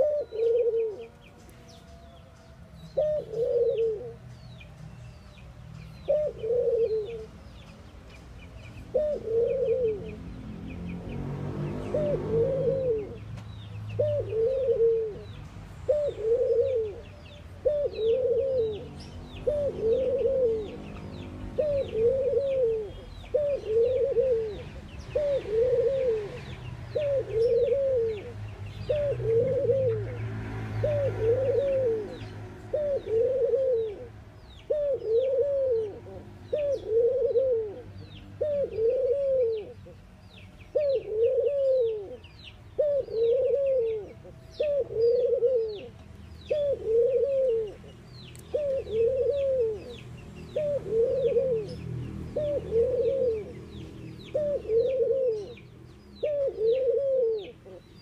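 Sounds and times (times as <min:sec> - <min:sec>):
dove cooing: 0:00.0 - 0:02.1, 0:02.9 - 0:04.2, 0:06.0 - 0:07.4, 0:08.8 - 0:10.3, 0:11.6 - 0:13.3, 0:13.9 - 0:40.0, 0:40.7 - 0:58.0
small birds chirping: 0:00.0 - 0:58.0.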